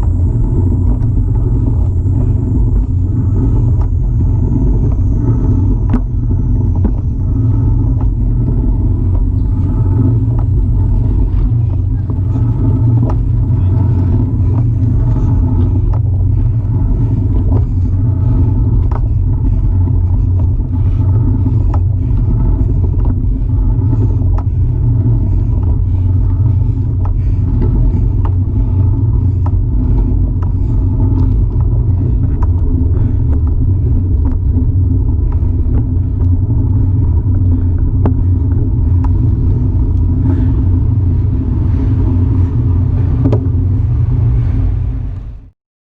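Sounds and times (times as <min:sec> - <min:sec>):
faint bicycle ticks: 0:00.0 - 0:44.4
wind and road noise: 0:00.0 - 0:45.5.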